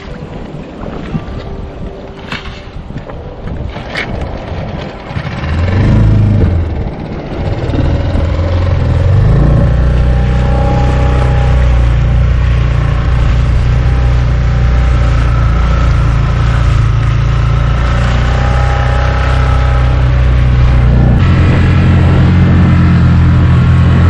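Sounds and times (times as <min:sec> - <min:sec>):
hull and water noise: 0:00.0 - 0:24.0
outboard motor running: 0:03.6 - 0:24.0.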